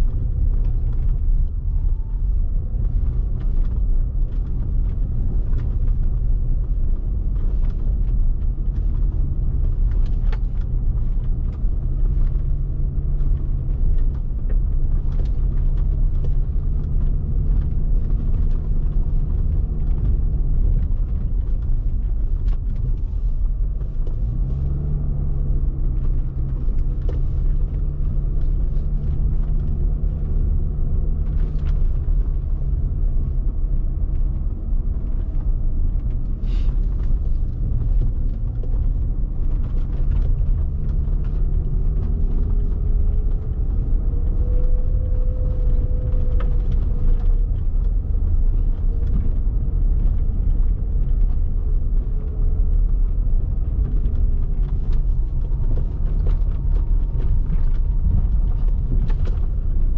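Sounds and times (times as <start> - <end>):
car engine running: 0.0 - 59.9
road noise rumble: 0.0 - 59.9.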